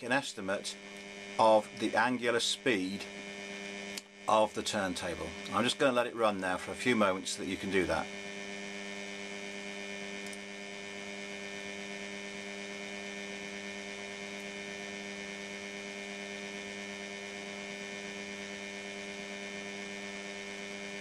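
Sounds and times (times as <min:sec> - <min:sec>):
electric motor humming: 0:00.0 - 0:21.0.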